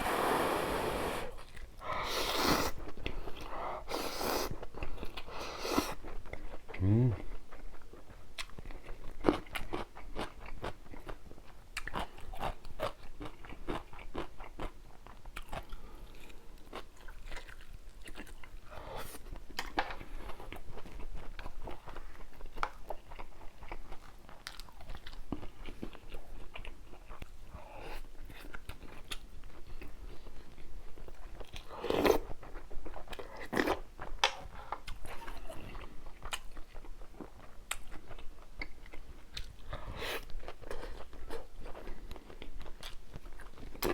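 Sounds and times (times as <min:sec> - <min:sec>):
chewing with crunchy bites: 0:01.3 - 0:43.9.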